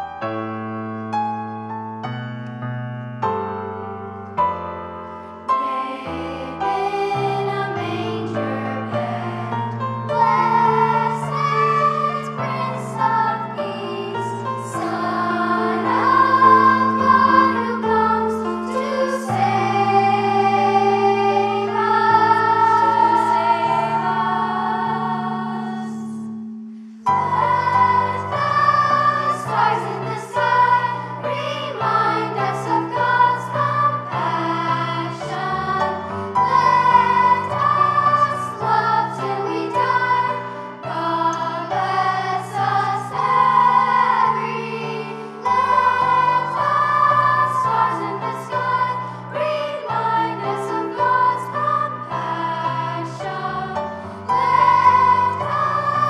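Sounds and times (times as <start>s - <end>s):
choir singing with instruments: 5.0s - 56.0s.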